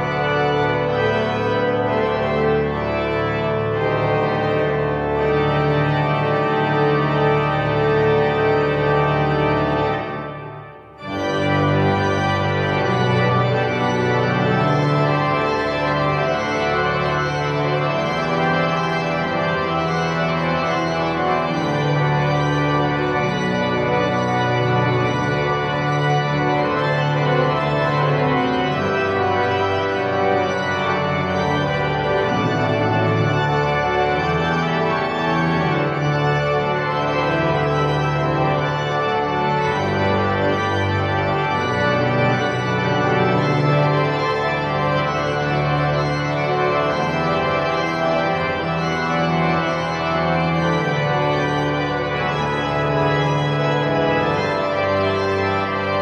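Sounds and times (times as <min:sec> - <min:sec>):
pipe organ chords: 0:00.0 - 0:56.0.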